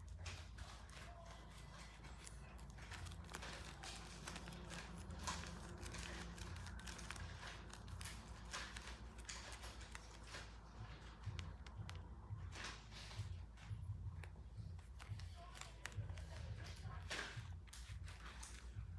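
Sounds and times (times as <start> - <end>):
paper crinkling: 0.0 - 18.9.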